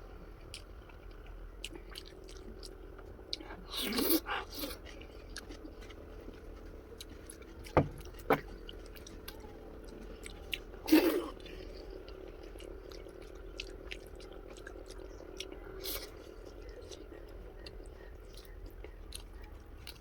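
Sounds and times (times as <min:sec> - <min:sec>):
person chewing food: 0:00.3 - 0:20.0.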